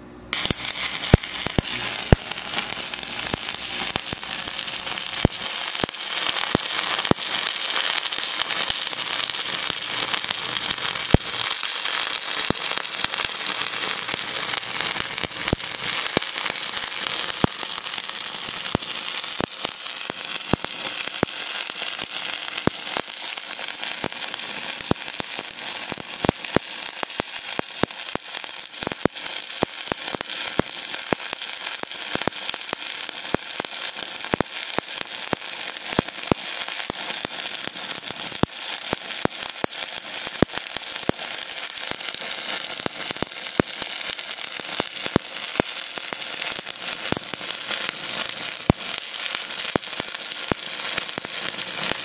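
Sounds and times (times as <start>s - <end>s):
welding arc crackling and popping: 0.3s - 52.0s.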